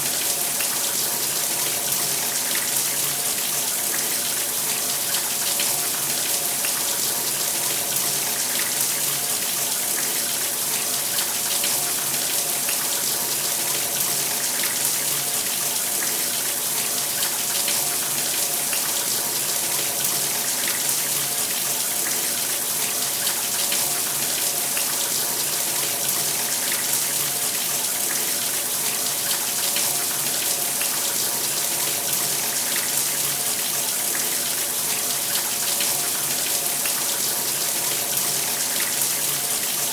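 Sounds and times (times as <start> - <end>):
shower running: 0.0 - 39.9.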